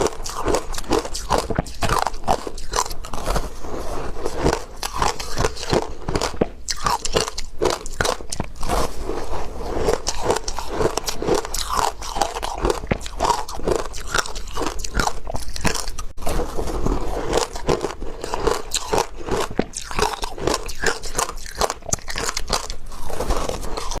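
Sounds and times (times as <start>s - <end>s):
ice being chewed: 0.0s - 24.0s.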